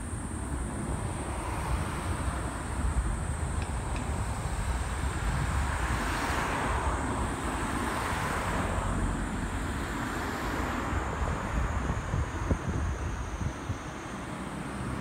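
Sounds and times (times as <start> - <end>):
distant train on tracks: 0.0 - 15.0
wind buffeting microphone: 0.0 - 15.0.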